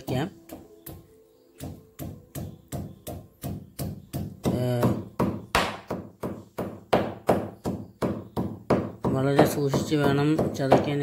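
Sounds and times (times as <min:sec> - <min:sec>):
stone pestle pounding in mortar: 0:00.0 - 0:11.0.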